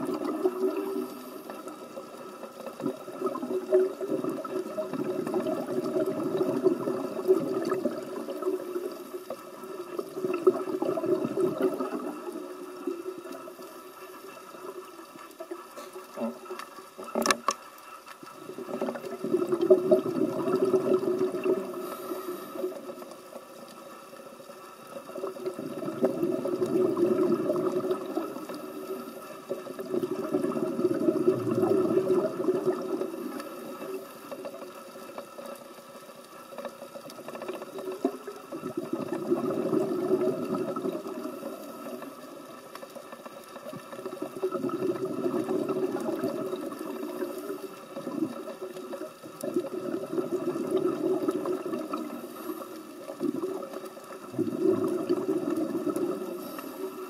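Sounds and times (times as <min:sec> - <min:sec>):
exhaled bubbles underwater: 0:00.0 - 0:17.4, 0:18.3 - 0:57.0.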